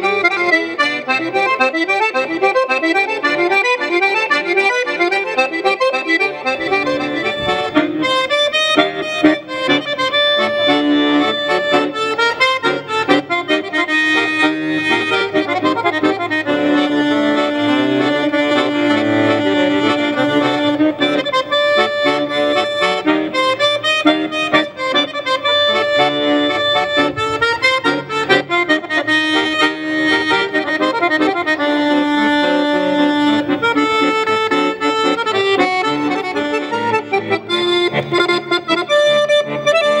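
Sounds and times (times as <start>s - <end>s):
button accordion tune: 0.0s - 40.0s.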